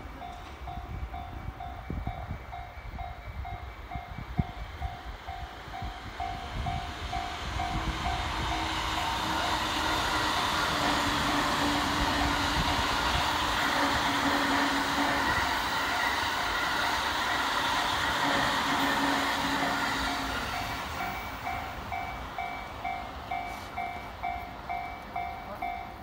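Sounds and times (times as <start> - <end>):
electric train passing: 0.0 - 26.0
level crossing warning bell ringing: 0.1 - 26.0.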